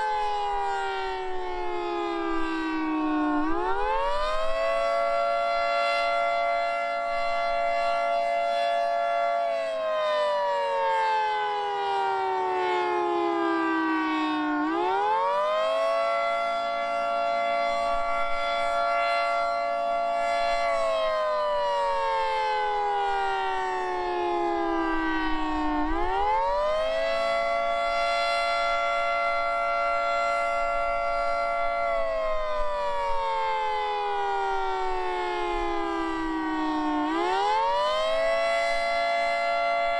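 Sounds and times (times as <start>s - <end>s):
two-tone warning siren wail: 0.0s - 39.9s.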